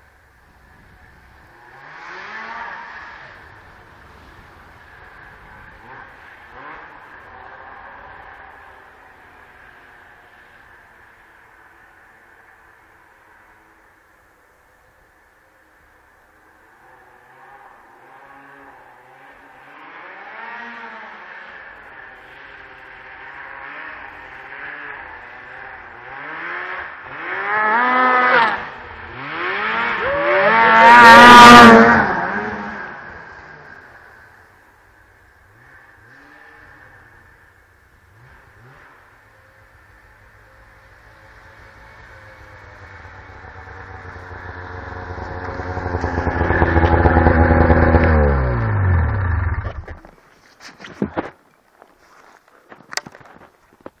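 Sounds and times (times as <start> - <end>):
snowmobile engine revving: 0.0 - 11.1, 16.7 - 50.1.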